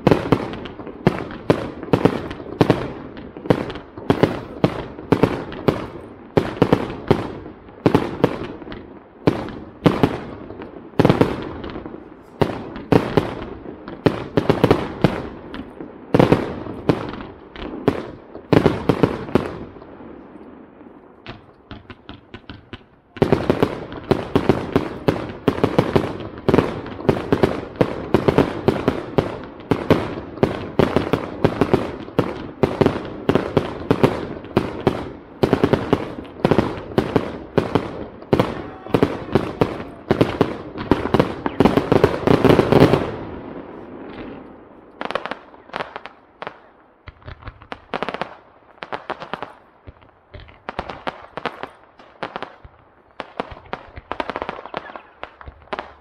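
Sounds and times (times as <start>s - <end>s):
fireworks bangs: 0.0s - 56.0s
fireworks crackles: 0.0s - 56.0s.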